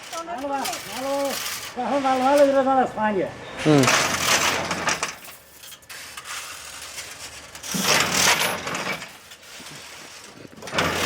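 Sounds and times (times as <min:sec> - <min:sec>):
wire mesh machine rattling: 0:00.0 - 0:02.6, 0:03.8 - 0:11.0.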